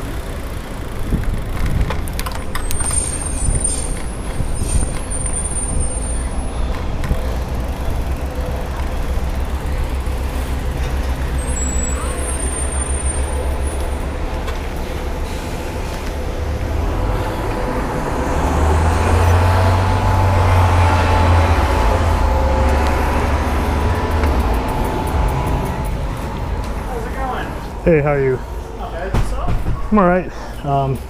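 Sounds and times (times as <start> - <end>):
buses passing: 0.0 - 31.0
road traffic: 0.0 - 31.0.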